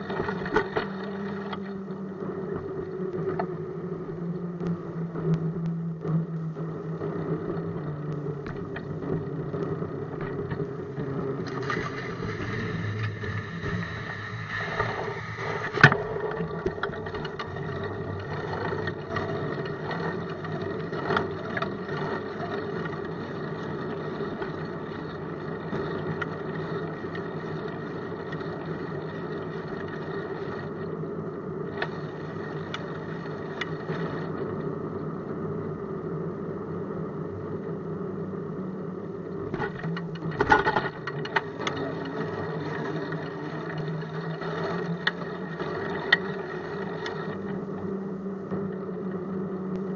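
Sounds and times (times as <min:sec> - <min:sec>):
bicycle rolling over pavement: 0:00.0 - 0:49.9.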